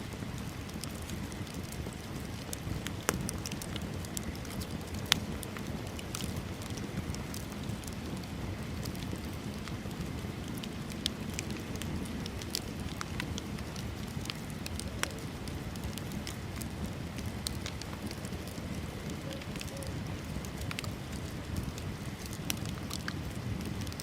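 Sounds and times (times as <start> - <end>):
bonfire crackling and popping: 0.0 - 24.0
rush of flame: 0.0 - 24.0.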